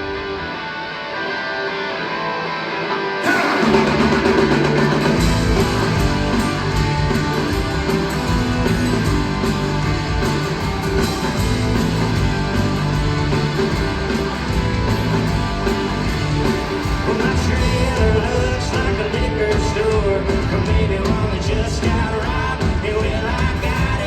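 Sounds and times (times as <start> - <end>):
country-rock band playing: 0.0 - 24.0
electric guitar: 0.0 - 24.0.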